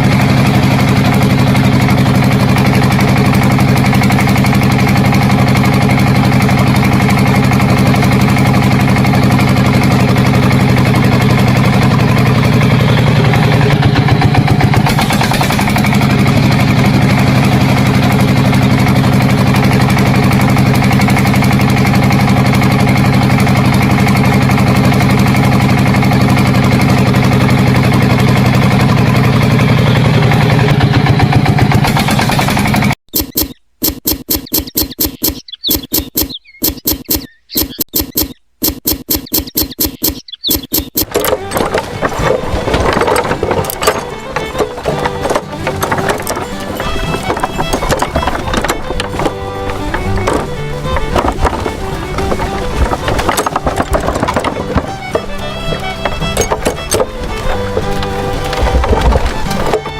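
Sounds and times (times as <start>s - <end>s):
engine droning steadily: 0.0s - 33.0s, 39.0s - 59.9s.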